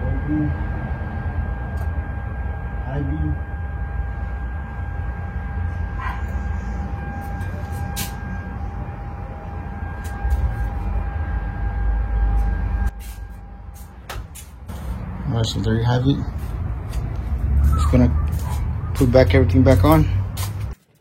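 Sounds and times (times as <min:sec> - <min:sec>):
faint steady whine: 0:00.0 - 0:17.3.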